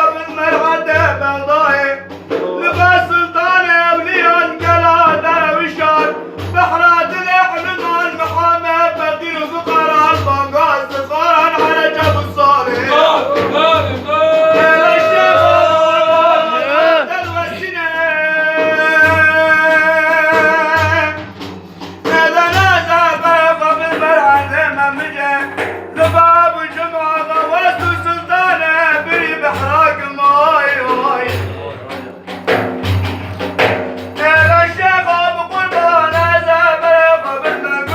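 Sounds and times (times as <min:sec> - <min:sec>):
man singing devotional melody: 0:00.0 - 0:21.4, 0:22.0 - 0:32.6, 0:34.1 - 0:37.9
low frame drum beats: 0:00.0 - 0:37.9.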